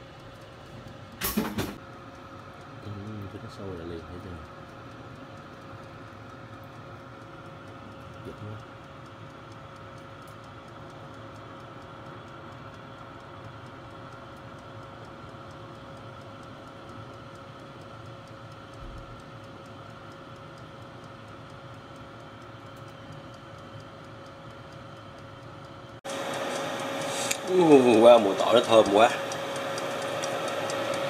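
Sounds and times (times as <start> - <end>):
oven fan hum: 0.0 - 31.0.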